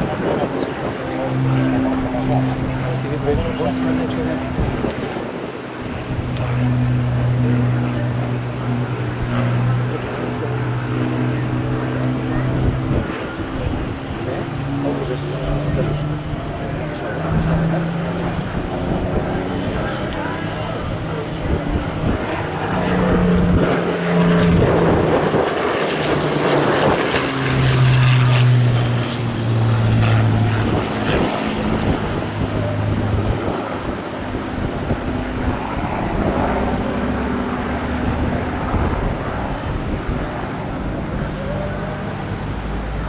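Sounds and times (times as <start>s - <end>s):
propeller plane engine droning: 0.0s - 43.0s.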